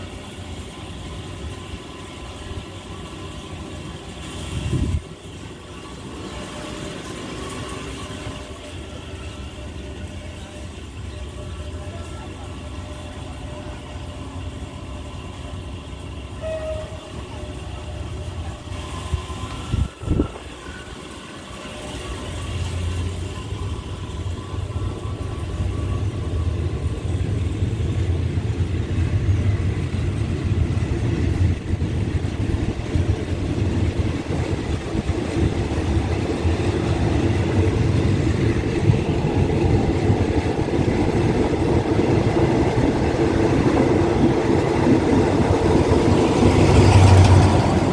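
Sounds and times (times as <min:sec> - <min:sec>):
train rumbling on rails: 0:00.0 - 0:47.9.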